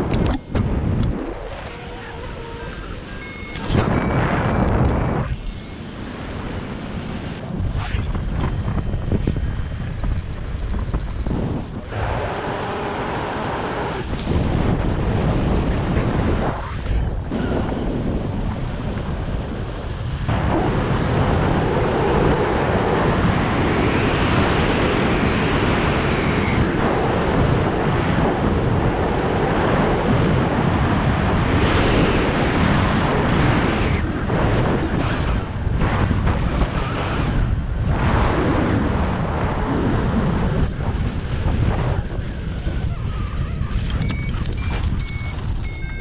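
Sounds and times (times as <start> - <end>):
wind roaring on microphone: 0.0 - 46.0.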